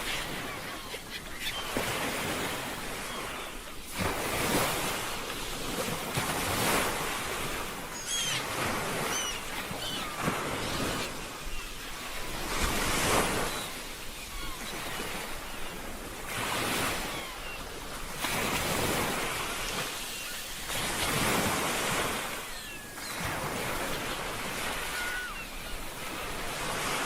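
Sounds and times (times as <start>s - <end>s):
ocean waves washing ashore: 0.0s - 27.0s.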